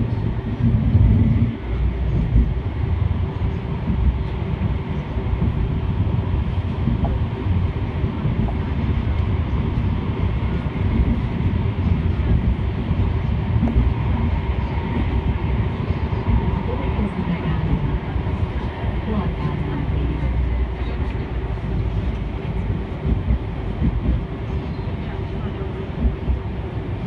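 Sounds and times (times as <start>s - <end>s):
tram wheels rumbling on track: 0.0s - 27.0s.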